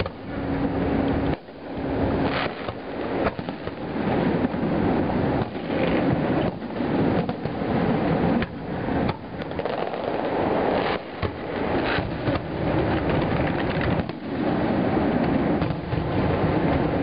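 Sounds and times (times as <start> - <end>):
fireworks bangs and crackles: 2.1 - 17.0.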